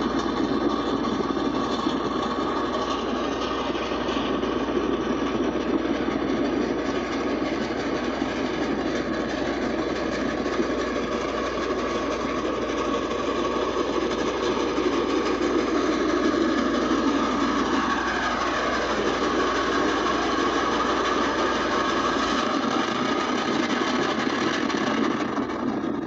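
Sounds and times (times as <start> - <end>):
steam train running: 0.0 - 26.0.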